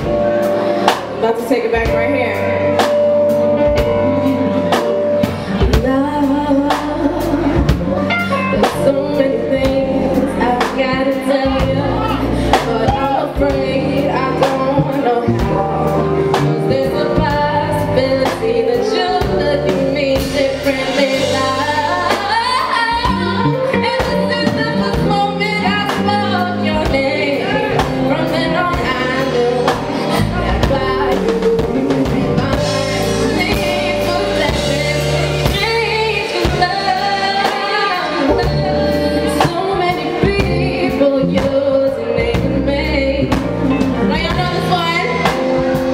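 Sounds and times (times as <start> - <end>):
band playing: 0.0 - 45.9
woman singing: 0.0 - 45.9.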